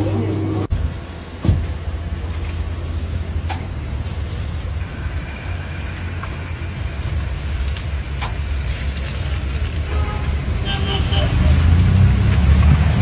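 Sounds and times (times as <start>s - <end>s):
steady low rumble: 0.0s - 10.6s
hot oil sizzling and bubbling: 0.7s - 13.0s.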